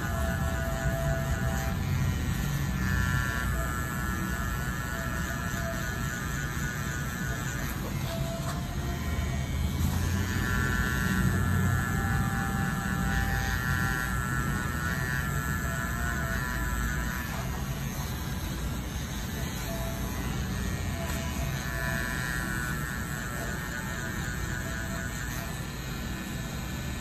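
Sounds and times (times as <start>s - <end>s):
tattoo machine humming: 0.0s - 27.0s.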